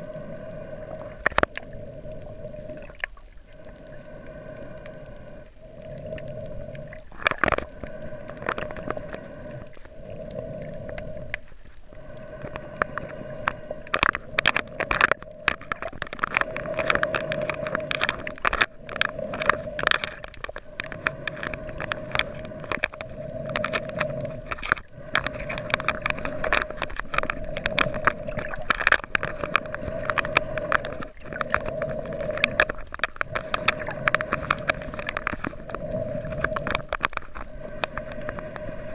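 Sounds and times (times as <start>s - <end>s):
crackle of sharp clicks: 0.0s - 38.9s
underwater hum: 0.0s - 38.9s.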